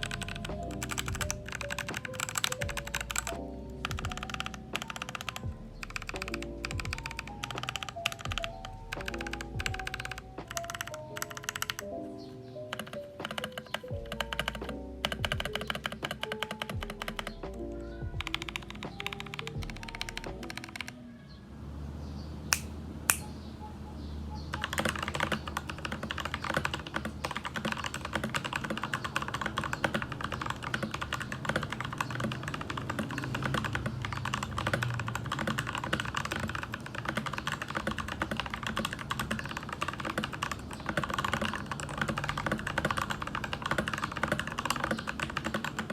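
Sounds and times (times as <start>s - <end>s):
mechanical keyboard typing: 0.0s - 21.0s, 24.5s - 45.9s
background music: 0.0s - 45.9s.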